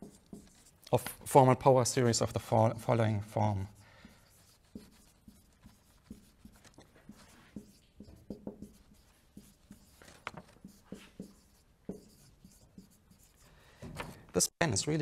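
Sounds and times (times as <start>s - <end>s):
marker pen on whiteboard: 0.0s - 14.2s.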